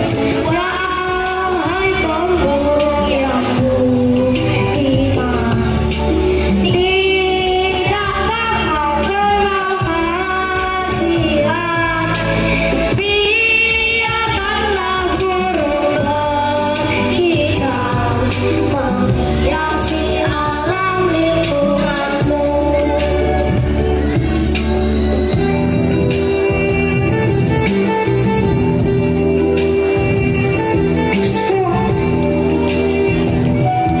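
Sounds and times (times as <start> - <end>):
amplified music backing track: 0.0 - 34.0.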